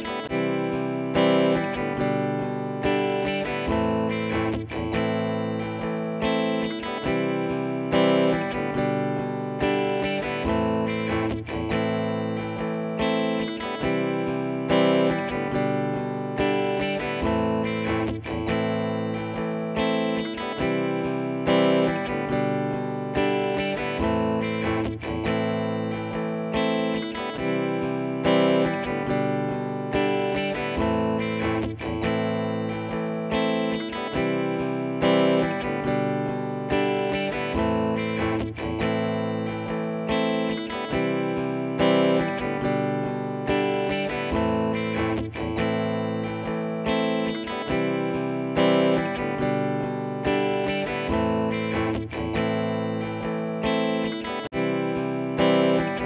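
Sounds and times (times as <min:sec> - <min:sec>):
electric guitar instrumental: 0:00.0 - 0:56.0.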